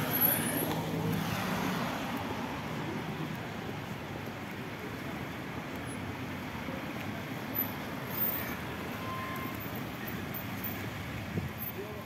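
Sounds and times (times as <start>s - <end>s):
car engines and tyre noise: 0.0s - 12.0s.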